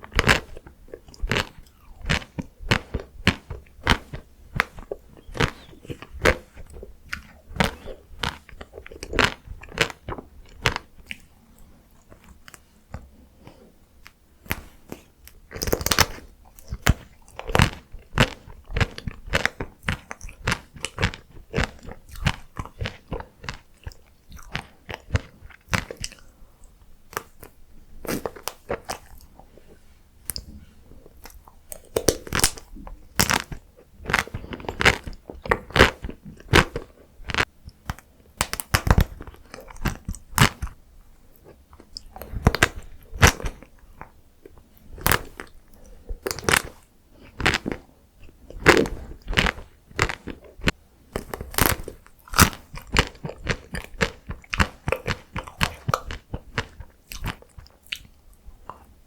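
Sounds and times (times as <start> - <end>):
crunching and chewing ice cream: 0.0 - 59.0.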